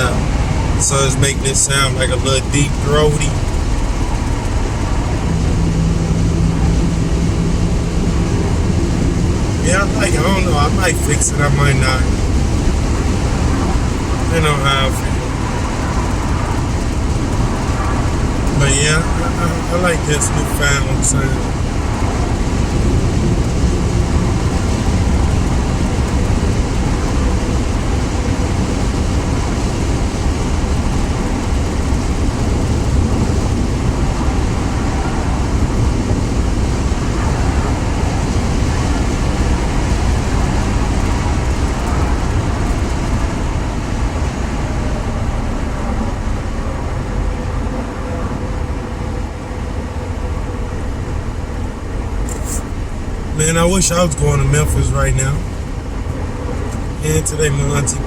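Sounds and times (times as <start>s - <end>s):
car engine with throaty exhaust: 0.0s - 58.0s
road noise: 0.0s - 58.0s.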